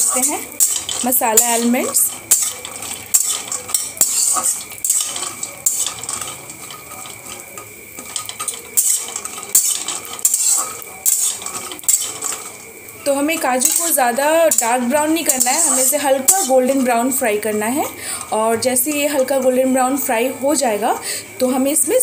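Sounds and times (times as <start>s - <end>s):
metal spatula scraping a pan: 0.0s - 21.1s
nuts clattering against pan: 0.0s - 21.8s.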